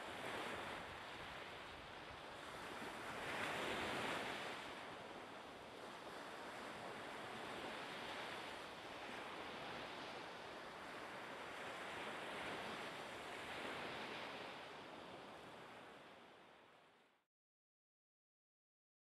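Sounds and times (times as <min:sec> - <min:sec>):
wind: 0:00.0 - 0:17.2.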